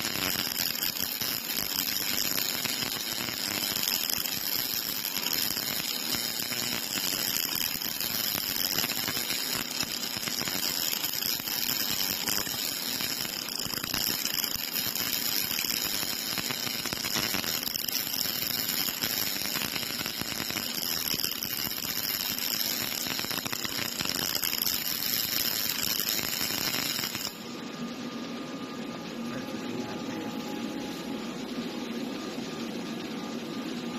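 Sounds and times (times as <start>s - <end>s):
welding arc crackling: 0.0s - 27.5s
machine hum: 0.0s - 33.9s.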